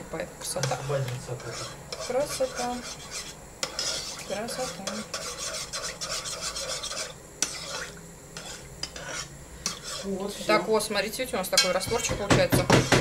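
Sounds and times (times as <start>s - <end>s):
spoon scraping in a bowl: 0.6s - 13.0s.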